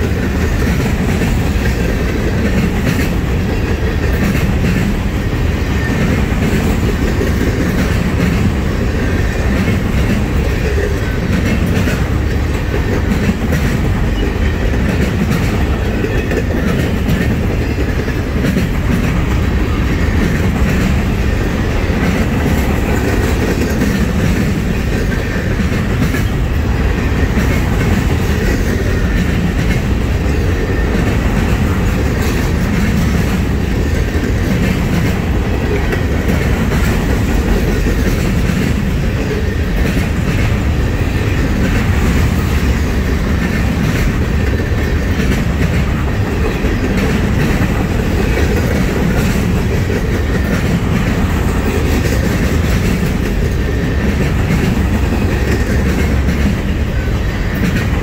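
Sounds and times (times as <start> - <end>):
wheels clicking over rail joints: 0.0 - 58.0
wheels rumbling on rail: 0.0 - 58.0.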